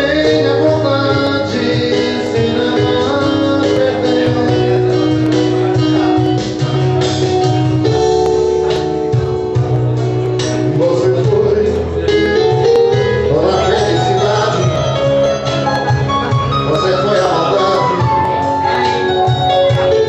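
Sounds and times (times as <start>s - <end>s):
band playing a song: 0.0s - 20.0s.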